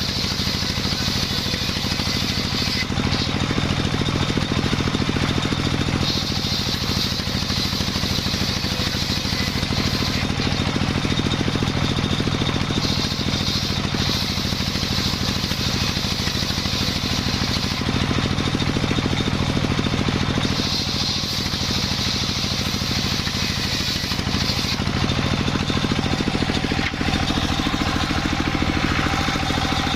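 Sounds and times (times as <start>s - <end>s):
saw hissing through log: 0.0s - 29.9s
sawmill engine running: 0.0s - 29.9s.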